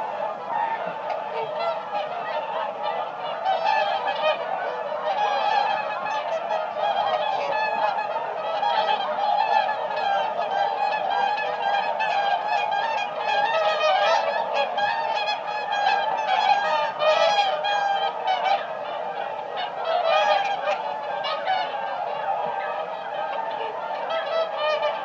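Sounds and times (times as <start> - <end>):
flock of swans calling: 0.0 - 25.0.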